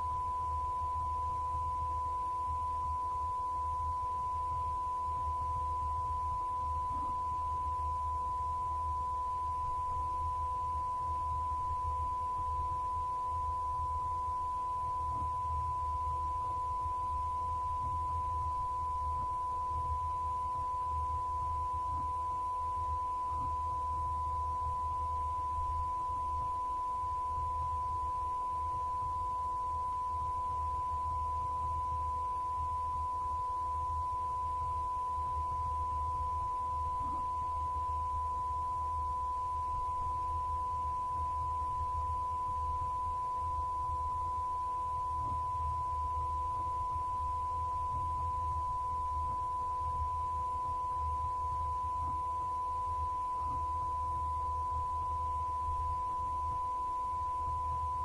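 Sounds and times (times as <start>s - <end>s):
electronic test tone: 0.0s - 58.0s
faint low hum: 0.0s - 58.0s.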